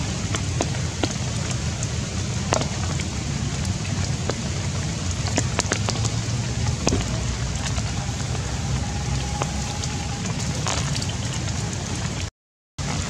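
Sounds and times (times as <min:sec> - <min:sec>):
low rumble: 0:00.0 - 0:12.3
steady rain falling: 0:00.0 - 0:13.0.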